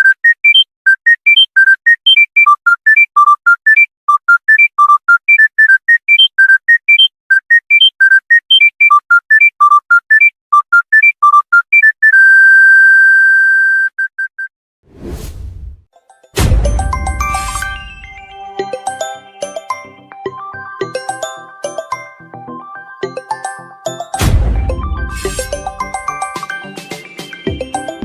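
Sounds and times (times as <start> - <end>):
mobile phone ringtone beeps: 0.0 - 13.9, 16.8 - 28.0.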